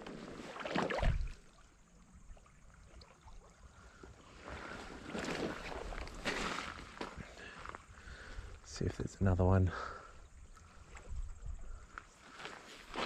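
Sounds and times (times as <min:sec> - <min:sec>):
river water sloshing and splashing: 0:00.0 - 0:08.5, 0:10.1 - 0:13.0.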